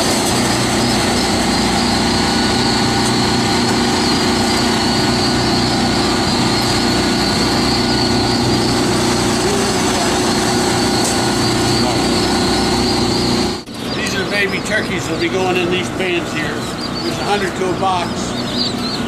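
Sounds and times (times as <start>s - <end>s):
loud mechanical hum: 0.0s - 19.0s.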